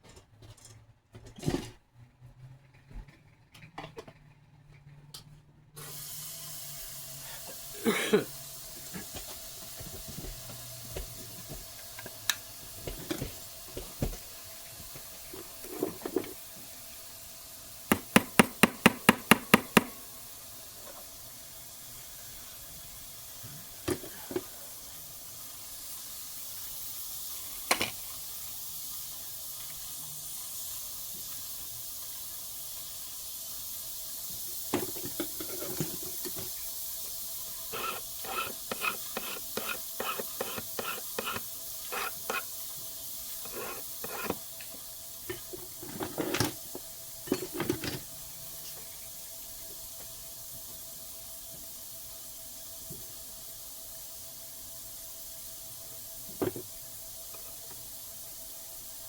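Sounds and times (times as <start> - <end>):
faint hiss: 5.8 - 59.0.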